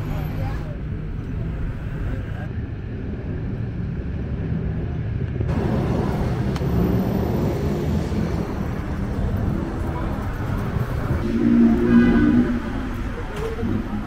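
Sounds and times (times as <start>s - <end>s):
rumble of road traffic: 0.0s - 14.0s.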